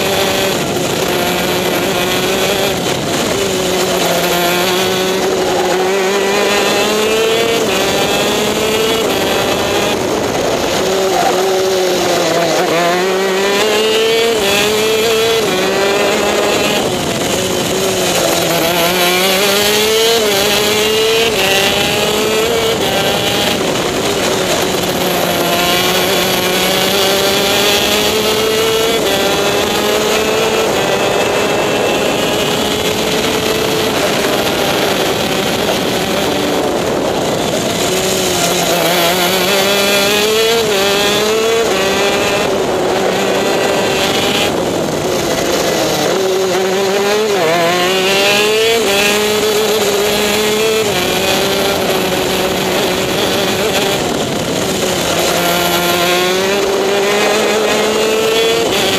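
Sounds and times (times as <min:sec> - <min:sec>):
two-stroke kart engine racing: 0:00.0 - 0:58.9.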